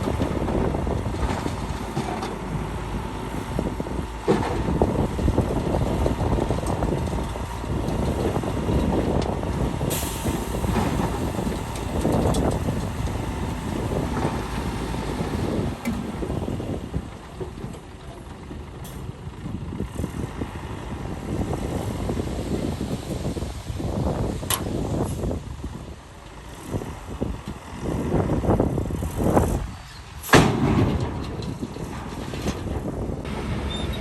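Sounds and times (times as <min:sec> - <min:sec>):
diesel engines running under load: 0:00.0 - 0:34.0.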